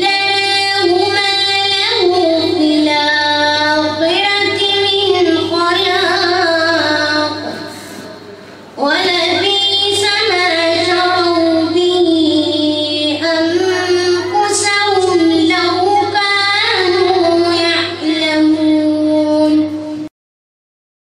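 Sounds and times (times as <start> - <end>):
child reciting melodically: 0.0 - 20.1.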